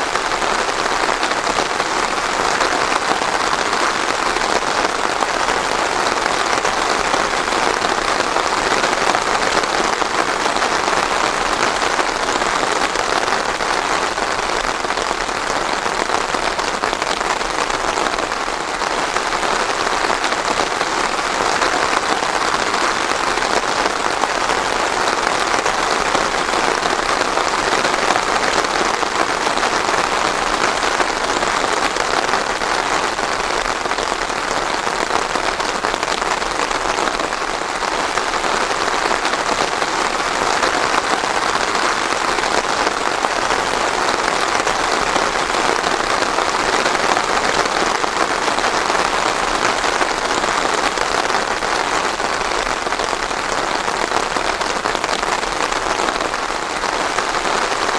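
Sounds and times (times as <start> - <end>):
rain falling on surfaces: 0.0 - 57.9.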